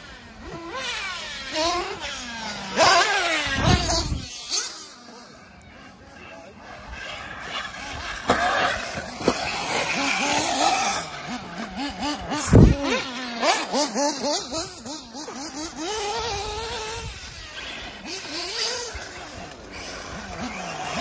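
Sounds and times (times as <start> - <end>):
rc buggy motors whining: 0.0 - 21.0.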